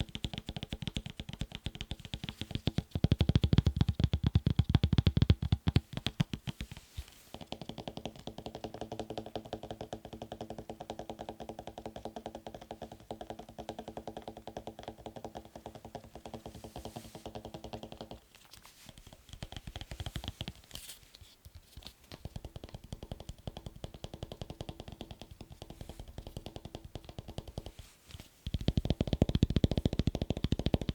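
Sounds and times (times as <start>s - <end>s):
fast fingertip tapping: 0.0s - 30.9s.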